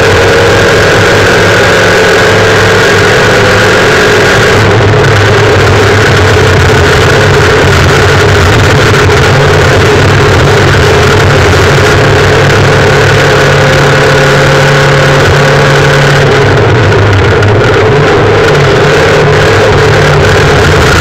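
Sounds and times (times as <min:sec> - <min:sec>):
car engine at high revs: 0:00.0 - 0:21.0
road noise: 0:00.0 - 0:21.0.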